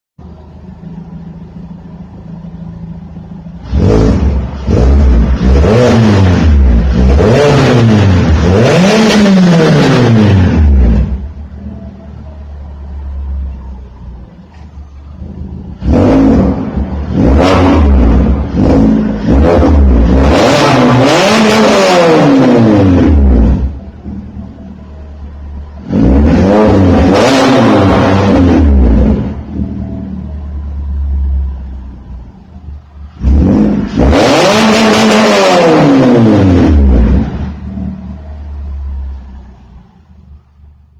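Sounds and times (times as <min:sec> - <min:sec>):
car engine idling and revving: 0:00.2 - 0:40.9.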